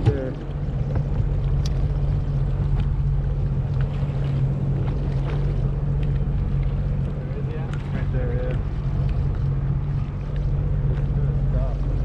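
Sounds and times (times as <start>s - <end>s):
personal watercraft engine running: 0.0s - 12.0s
water and wind noise: 0.0s - 12.0s.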